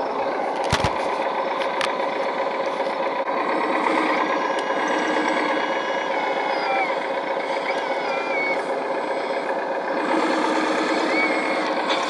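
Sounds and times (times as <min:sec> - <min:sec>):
hydraulic pump hum and whine: 0:00.0 - 0:12.0.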